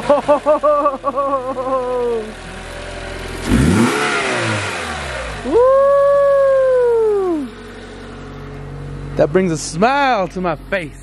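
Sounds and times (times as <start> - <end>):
car engine running and revving: 0.0 - 11.0.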